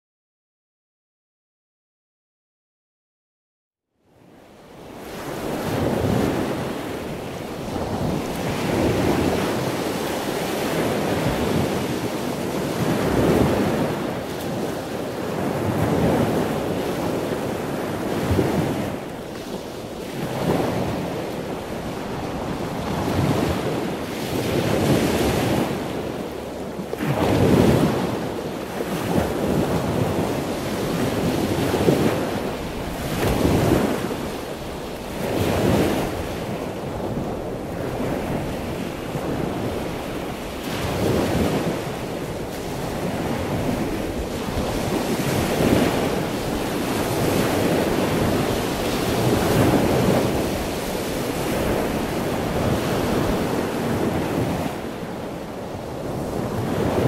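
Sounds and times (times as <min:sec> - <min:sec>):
wind: 0:03.8 - 0:57.0
ocean waves breaking: 0:04.2 - 0:57.0.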